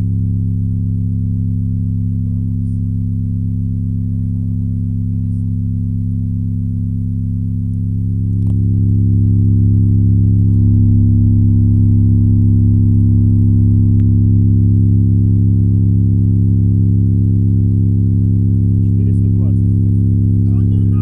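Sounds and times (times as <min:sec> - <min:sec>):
loud low bass tone from subwoofer: 0:00.0 - 0:21.0.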